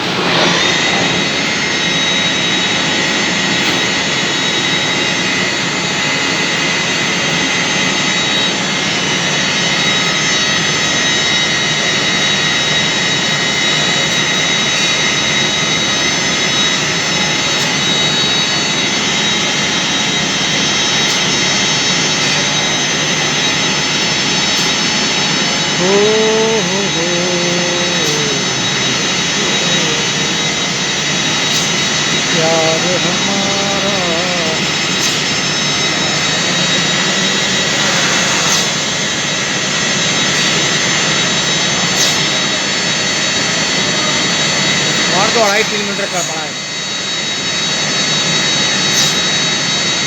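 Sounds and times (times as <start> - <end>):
lathe running with high whine: 0.0 - 50.0.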